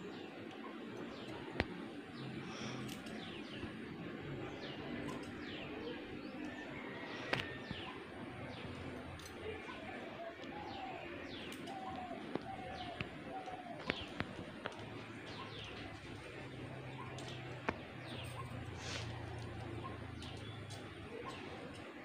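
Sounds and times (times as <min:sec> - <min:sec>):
birds chirping: 0:00.0 - 0:22.0
doves cooing: 0:02.2 - 0:22.0.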